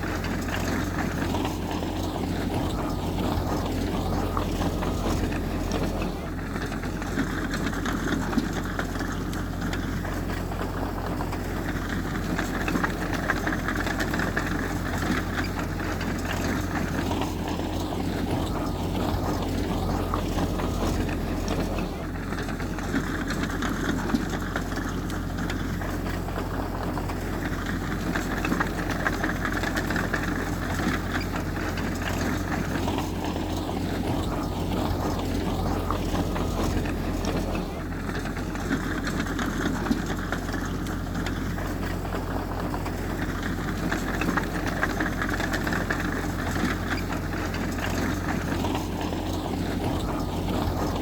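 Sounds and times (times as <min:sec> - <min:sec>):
heavy machinery diesel engine drone: 0:00.0 - 0:51.0.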